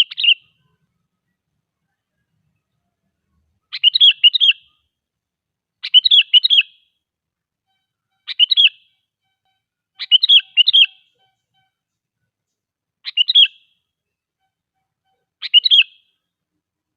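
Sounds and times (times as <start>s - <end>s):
bulbul singing: 0.0s - 2.8s, 3.6s - 5.0s, 5.8s - 7.0s, 7.7s - 16.3s.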